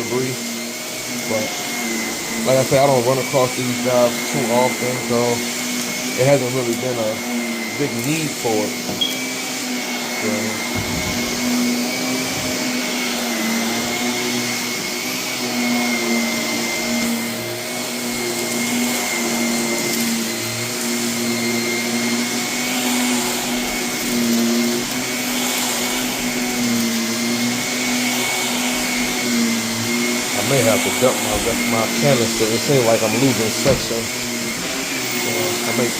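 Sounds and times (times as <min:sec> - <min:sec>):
vacuum cleaner motor whine: 0:00.0 - 0:35.9.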